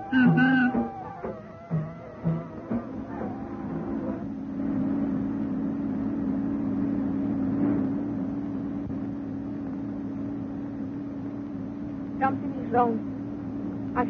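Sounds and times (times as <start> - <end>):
car engine running steadily: 0.0 - 14.0.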